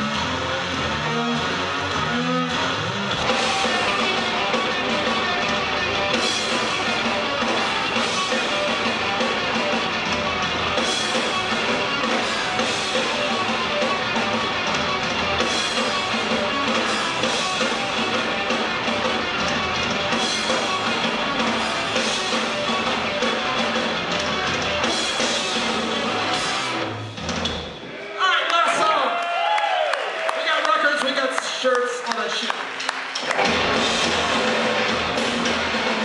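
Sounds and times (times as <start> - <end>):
distorted electric guitar: 0.0 - 27.8, 33.2 - 36.0
noise rock band playing: 0.0 - 27.9, 32.1 - 36.0.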